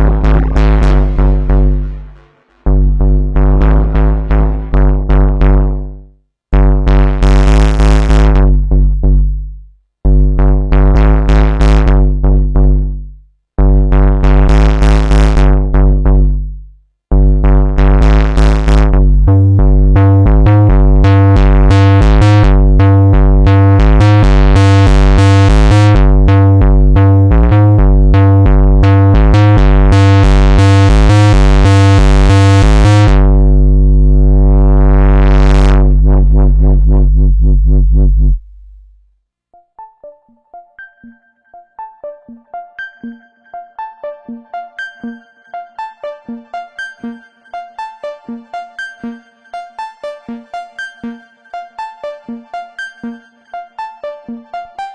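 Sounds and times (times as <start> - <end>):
synthesizer bass notes: 0.0 - 54.9.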